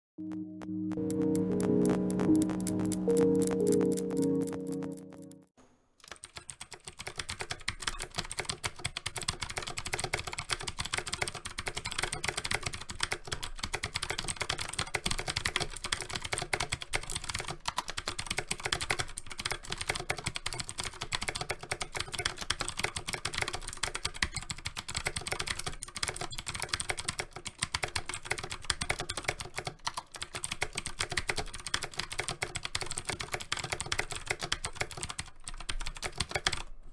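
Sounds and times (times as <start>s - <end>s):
fast typing on clicky keyboard: 6.0s - 36.7s.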